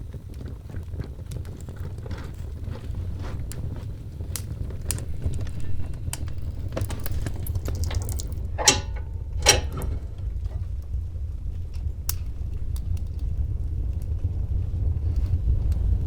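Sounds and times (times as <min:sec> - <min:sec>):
fire burning in a fireplace: 0:00.0 - 0:16.0
fire crackles and pops: 0:00.0 - 0:16.0.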